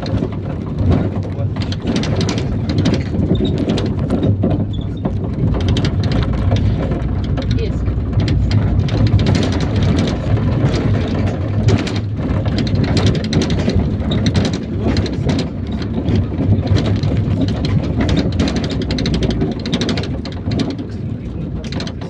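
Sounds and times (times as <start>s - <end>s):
body and fittings rattling: 0.0s - 22.0s
minibus engine and road rumble: 0.0s - 22.0s.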